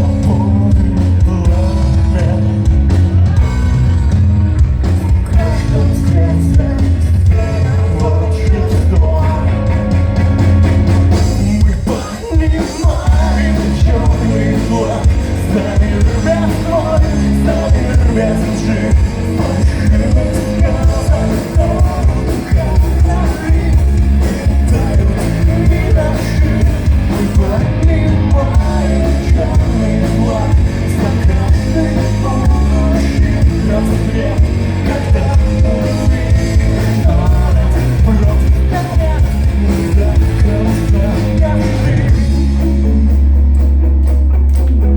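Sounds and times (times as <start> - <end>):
person singing: 0.0 - 10.0, 11.1 - 43.5
live rock band: 0.0 - 44.9.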